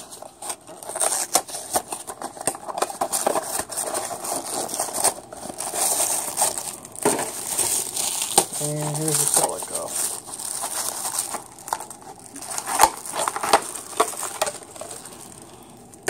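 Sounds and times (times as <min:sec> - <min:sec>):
plastic and cardboard crinkling: 0:00.0 - 0:16.0.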